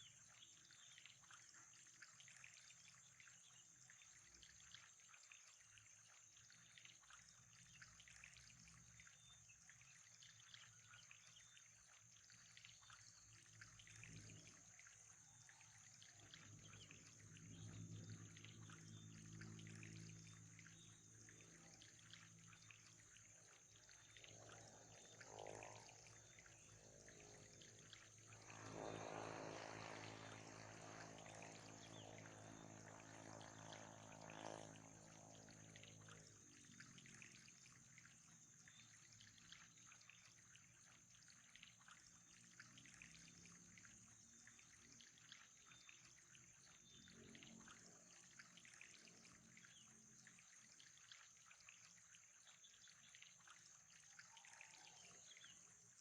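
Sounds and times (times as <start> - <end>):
low steady hum: 0.0 - 56.0
water trickling: 0.0 - 56.0.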